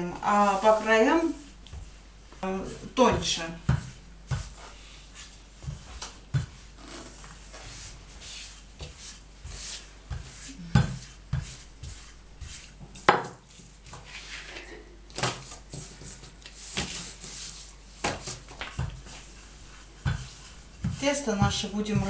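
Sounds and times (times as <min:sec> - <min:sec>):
rolling pin rubbing on dough: 0:00.2 - 0:14.6, 0:15.4 - 0:22.0.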